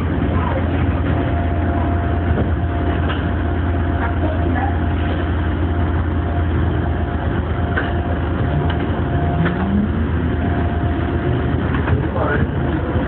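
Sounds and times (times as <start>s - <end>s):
traction motors whining: 0.0s - 13.0s
train low hum: 0.0s - 13.0s.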